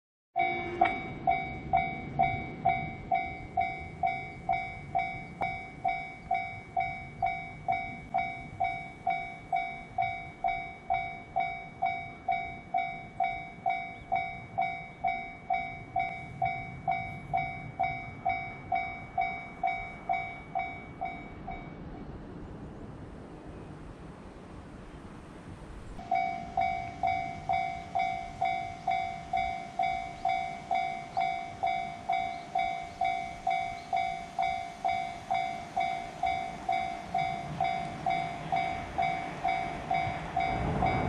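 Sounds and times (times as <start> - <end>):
level crossing bell dinging: 0.4 - 21.8, 26.0 - 41.0.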